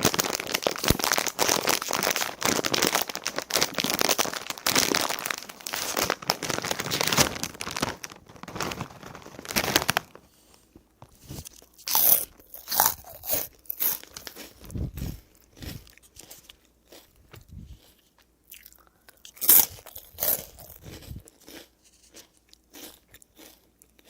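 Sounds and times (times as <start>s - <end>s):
chips being crunched and chewed: 0.0s - 10.1s, 11.4s - 24.0s.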